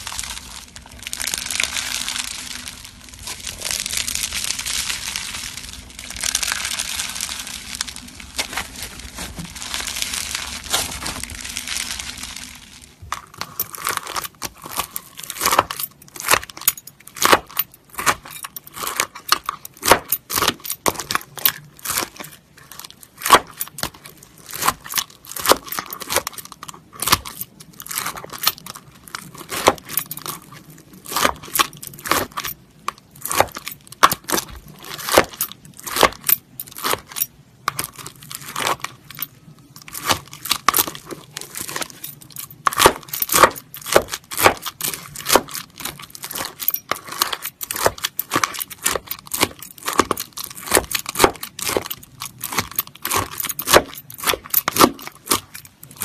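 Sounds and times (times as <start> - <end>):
spoon crunching beaded slime: 0.0 - 56.0.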